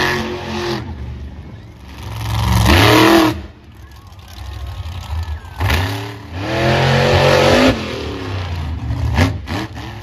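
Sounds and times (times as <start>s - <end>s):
monster truck engine revving: 0.0s - 3.7s, 4.3s - 10.0s.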